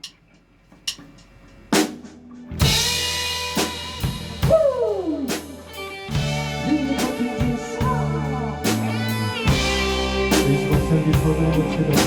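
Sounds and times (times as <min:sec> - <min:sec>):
rock band playing a ballad: 0:01.8 - 0:12.0.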